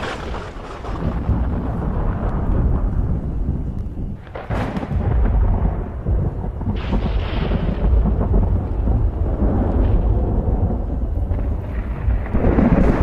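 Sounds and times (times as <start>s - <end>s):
thunder crack: 0.0s - 13.0s
thunder rumbling: 0.0s - 13.0s.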